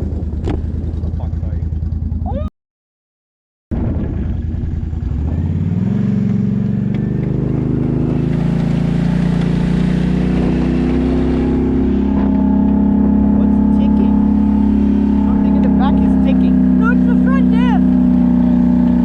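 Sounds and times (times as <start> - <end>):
atv engine accelerating: 0.0 - 2.5, 3.8 - 19.0.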